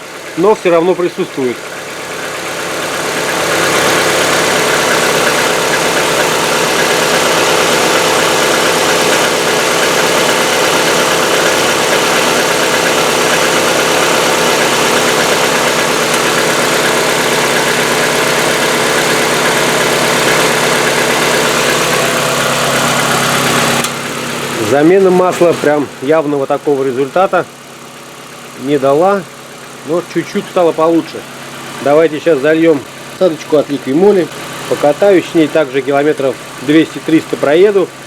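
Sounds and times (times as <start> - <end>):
fast ticking of engine lifters: 0.0 - 38.0
petrol engine idling: 0.0 - 38.0.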